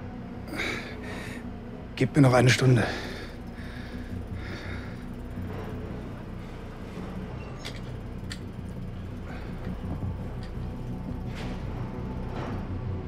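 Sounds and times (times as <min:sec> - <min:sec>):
low droning film underscore: 0:00.0 - 0:13.0.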